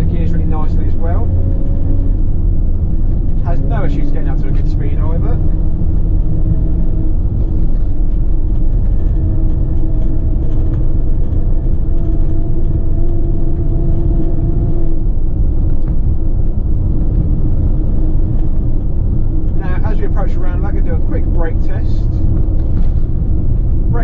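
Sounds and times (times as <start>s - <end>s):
humming tone: 0.0s - 19.4s
diesel engine and road noise: 0.0s - 24.0s.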